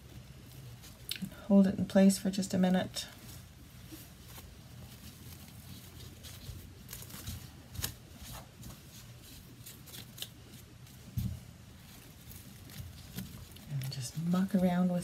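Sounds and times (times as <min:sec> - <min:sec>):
ribbon rustling and crinkling: 0:00.0 - 0:15.0.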